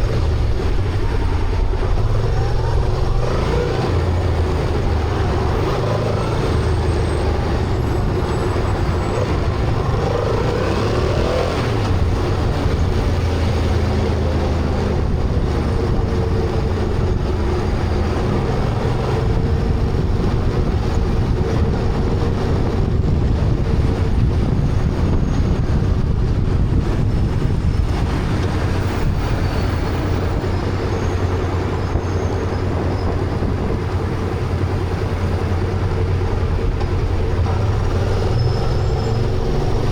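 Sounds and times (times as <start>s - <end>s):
motorcycle engine drone: 0.0s - 39.9s
wind and tyre hiss: 0.0s - 39.9s.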